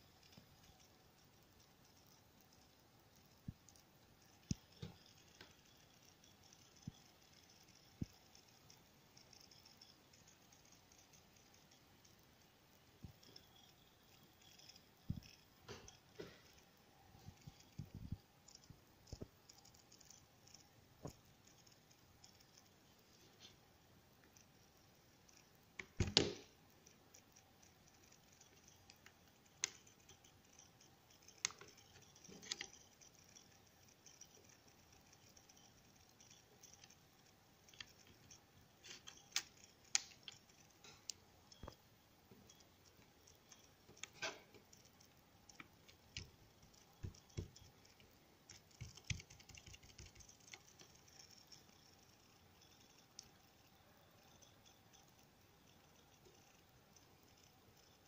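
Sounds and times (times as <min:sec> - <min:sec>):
fingers tapping circuit board: 0:00.0 - 0:23.1, 0:24.2 - 0:58.0.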